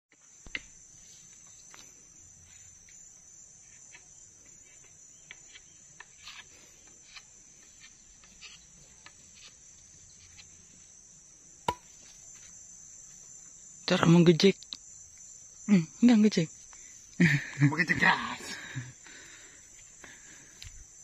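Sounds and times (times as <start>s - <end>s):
high-pitched insect trill: 0.1s - 21.0s.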